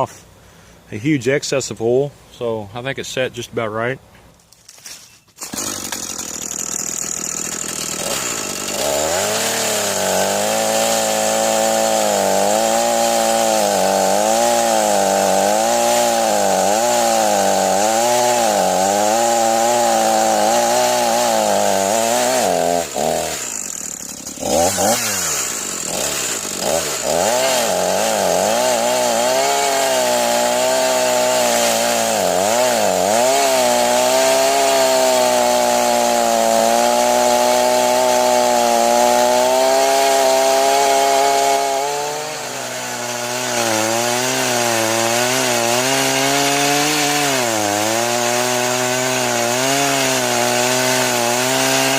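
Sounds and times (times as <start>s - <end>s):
chainsaw cutting wood: 4.7s - 51.9s.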